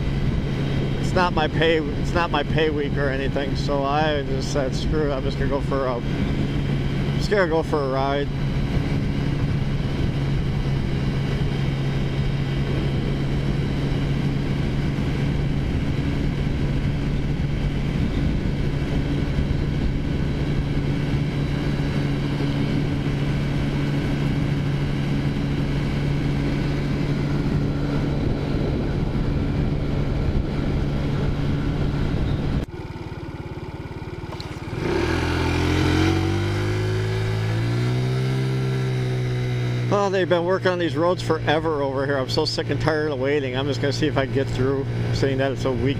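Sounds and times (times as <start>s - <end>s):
scooter engine running: 0.0s - 45.9s.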